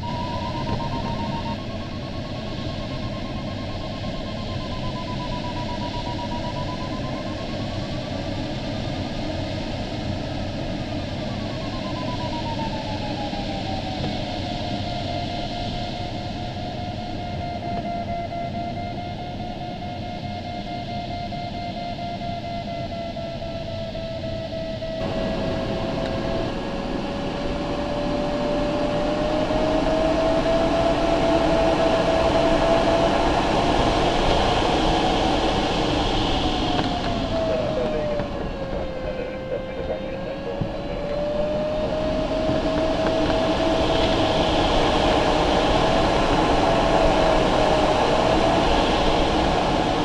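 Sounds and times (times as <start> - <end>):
rush of air around cockpit: 0.0 - 50.0
variometer continuous electronic tone: 0.0 - 50.0.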